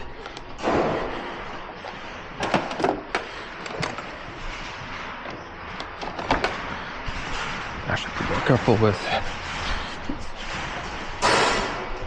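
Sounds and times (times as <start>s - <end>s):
shop noise hiss: 0.0s - 12.0s.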